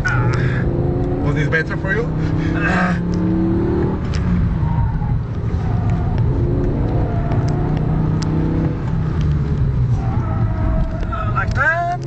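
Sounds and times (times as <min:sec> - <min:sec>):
car engine revving from inside: 0:00.0 - 0:04.5, 0:05.4 - 0:11.1.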